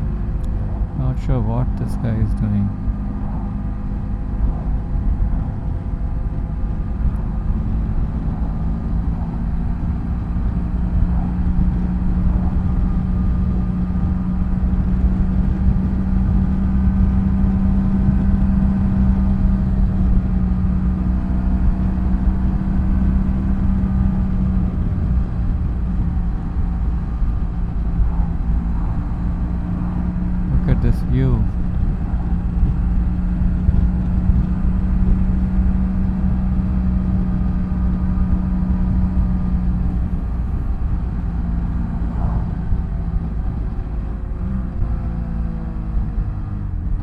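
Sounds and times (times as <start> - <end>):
motorcycle engine running steadily: 0.0 - 47.0.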